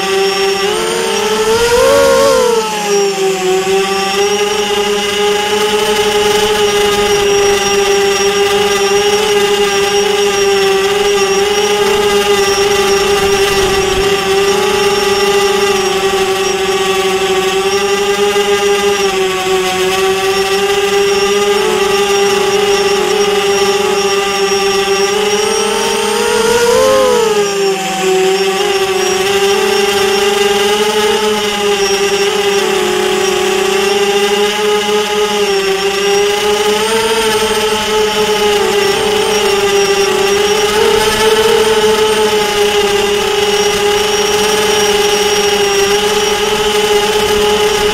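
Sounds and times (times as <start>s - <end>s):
drone propellers whining: 0.0s - 47.9s.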